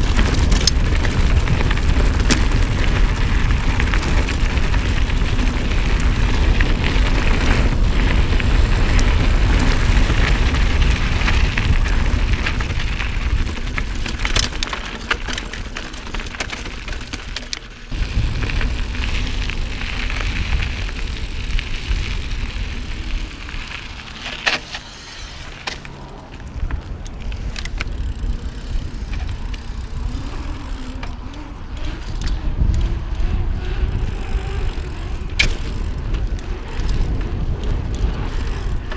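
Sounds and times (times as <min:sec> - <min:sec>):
bike tyres rolling: 0:00.0 - 0:38.9
wind rushing over microphone: 0:00.0 - 0:38.9.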